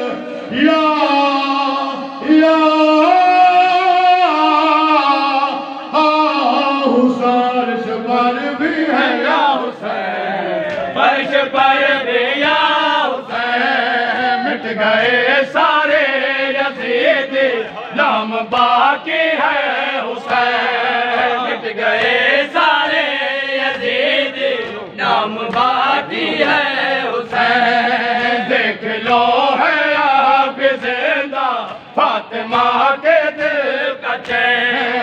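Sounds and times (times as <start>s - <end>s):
voices chanting a lament: 0.0s - 35.0s.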